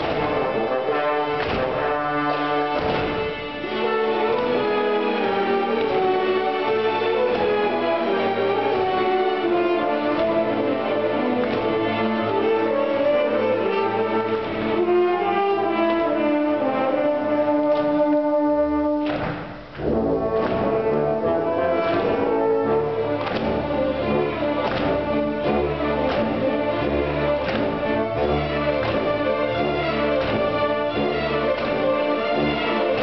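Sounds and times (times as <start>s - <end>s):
orchestra strings sustained chords: 0.0s - 33.0s.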